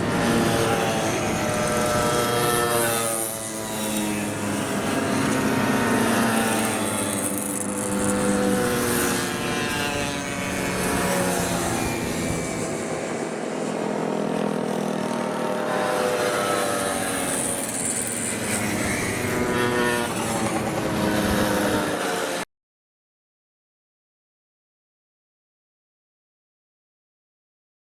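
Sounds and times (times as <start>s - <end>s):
mopeds revving past: 0.0s - 22.4s.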